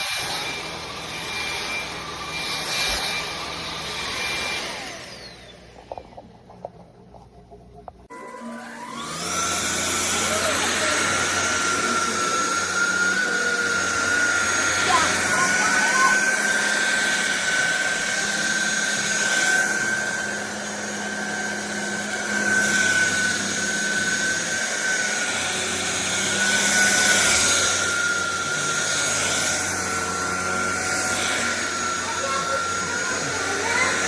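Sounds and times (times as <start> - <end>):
stick vacuum running: 0.0 - 34.0.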